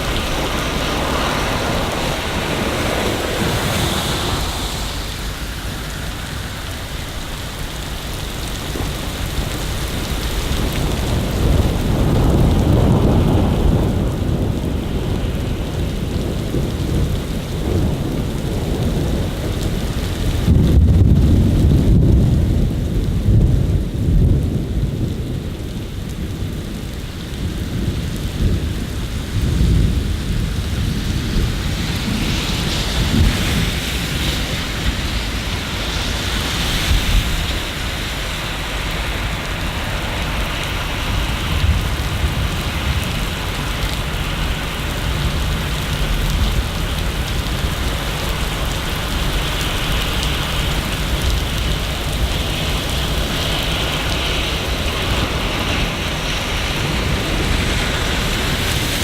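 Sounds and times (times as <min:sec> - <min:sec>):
low thunder rumbling: 0:00.0 - 0:59.0
steady rain falling: 0:00.0 - 0:59.0.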